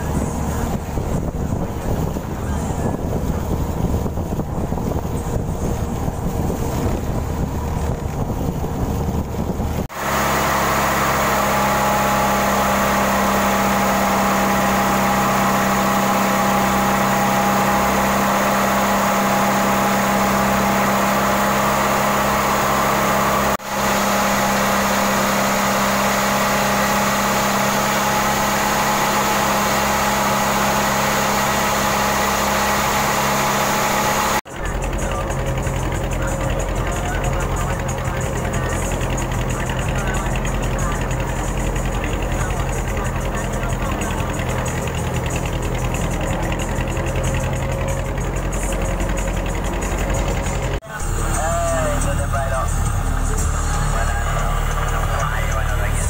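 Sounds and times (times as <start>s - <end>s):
diesel engine running: 0.0s - 56.0s
water rushing along boat hull: 0.0s - 56.0s.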